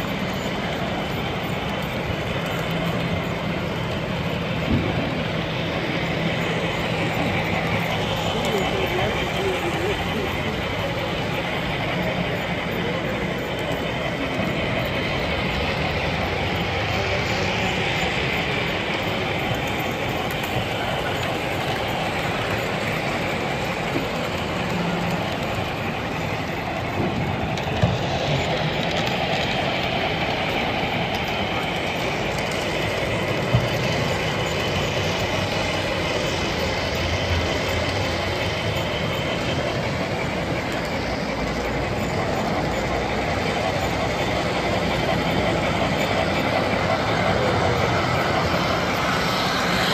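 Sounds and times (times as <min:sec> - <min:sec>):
model train rolling: 0:00.0 - 0:49.9.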